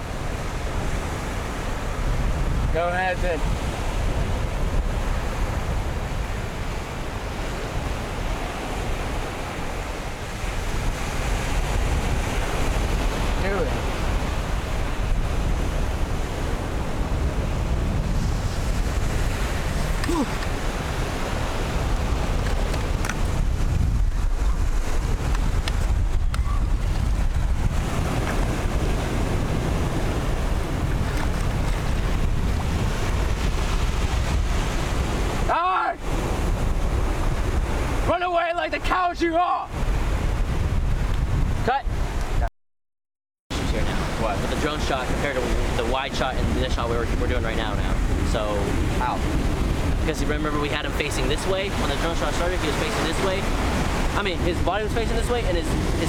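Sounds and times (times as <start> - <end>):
small waves washing on beach: 0.0 - 42.4, 43.5 - 56.0
ocean surf: 0.0 - 42.5, 43.5 - 56.0
wind rumbling on microphone: 0.0 - 42.5, 43.5 - 56.0.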